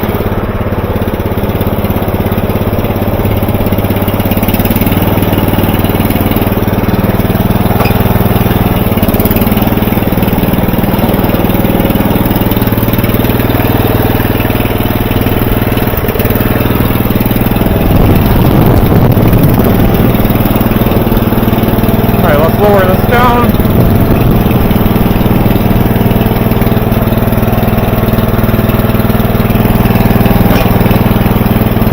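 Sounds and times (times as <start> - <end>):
riding lawn mower engine: 0.0 - 31.9.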